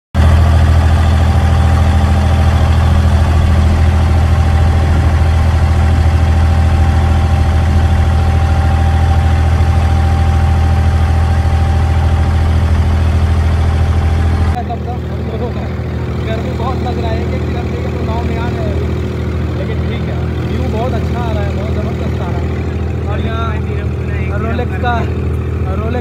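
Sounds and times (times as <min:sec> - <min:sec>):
boat diesel engine humming: 0:00.1 - 0:26.0.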